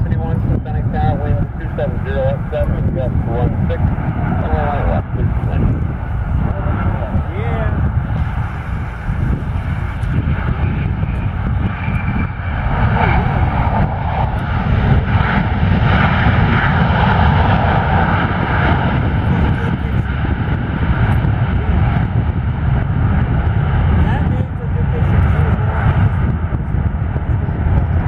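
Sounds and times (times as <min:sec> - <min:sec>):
jet airliner engines roaring: 0:00.0 - 0:28.0.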